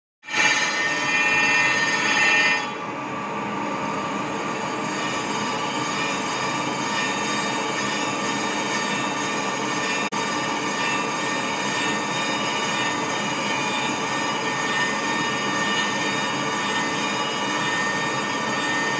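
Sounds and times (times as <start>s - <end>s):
grinding wheel metallic screech: 0.2s - 2.7s, 4.7s - 18.9s.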